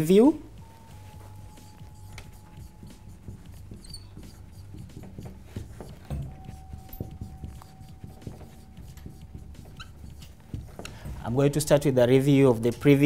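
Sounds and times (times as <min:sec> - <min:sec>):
low room hum: 0:00.0 - 0:13.0
marker squeaking on whiteboard: 0:01.0 - 0:11.9.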